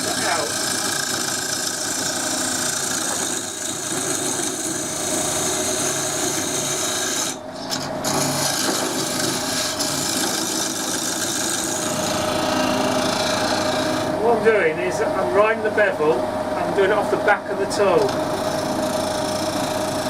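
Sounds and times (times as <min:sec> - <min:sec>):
chisel scraping wood: 0:00.0 - 0:14.2, 0:18.0 - 0:20.0
wood lathe running: 0:00.0 - 0:20.0.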